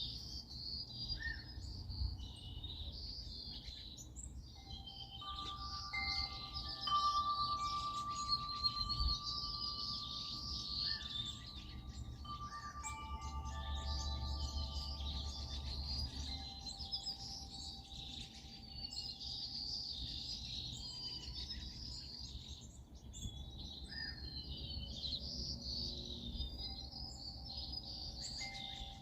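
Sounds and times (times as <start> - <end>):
songbirds chirping and singing: 0.0 - 29.0.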